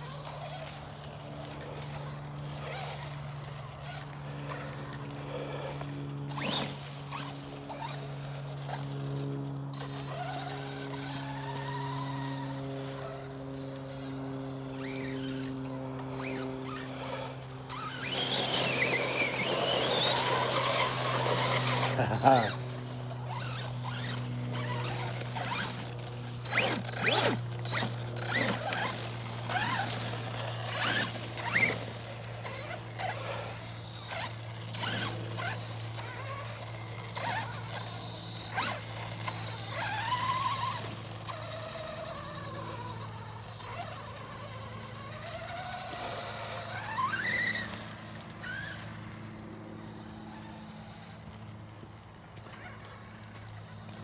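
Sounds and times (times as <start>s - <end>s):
rc truck motor whining: 0.0s - 54.0s.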